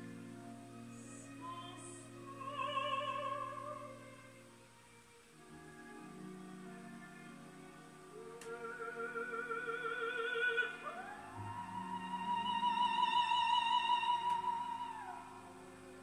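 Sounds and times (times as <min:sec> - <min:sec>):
classical music over loudspeakers: 0:00.0 - 0:16.0.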